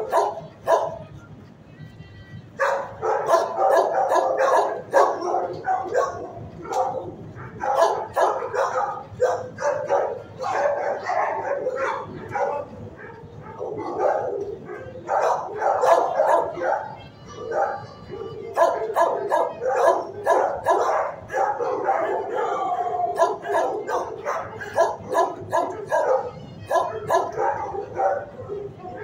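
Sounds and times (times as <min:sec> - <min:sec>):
dogs barking: 0:00.0 - 0:01.1, 0:02.6 - 0:29.0.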